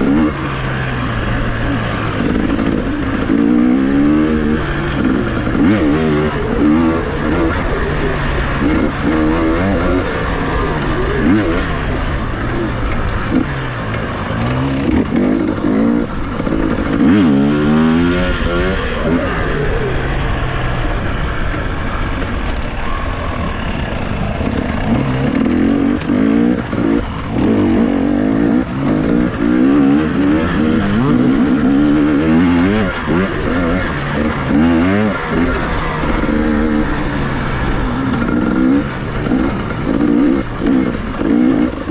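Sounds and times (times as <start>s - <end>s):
two-stroke motorcycle engine revving: 0.0s - 41.9s.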